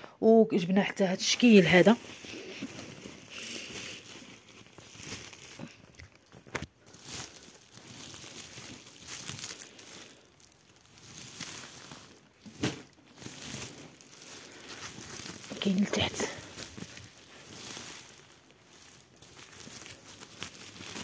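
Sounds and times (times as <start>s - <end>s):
plastic bags crinkling: 0.8s - 21.0s.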